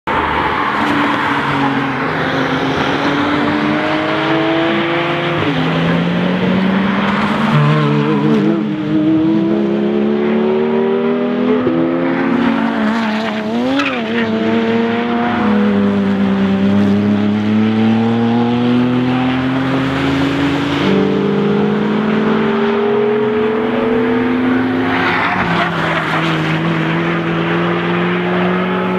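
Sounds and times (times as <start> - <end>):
race car engines accelerating: 0.1 - 28.9.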